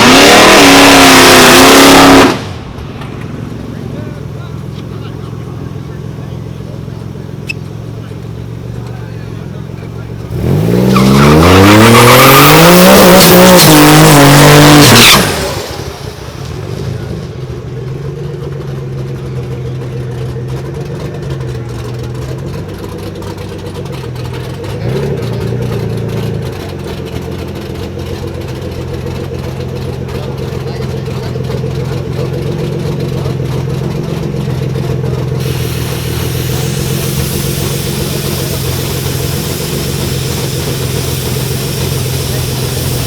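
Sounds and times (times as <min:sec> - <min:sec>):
car engine revving at full throttle: 0:00.0 - 0:43.0.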